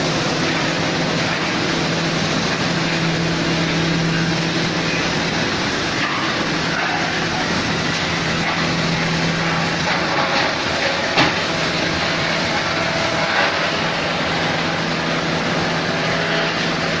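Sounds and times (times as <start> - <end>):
machinery droning: 0.0 - 17.0.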